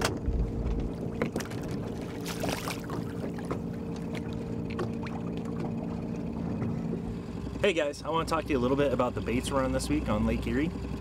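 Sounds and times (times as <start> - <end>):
outboard motor humming: 0.0 - 11.0
water splashing against hull: 0.0 - 11.0.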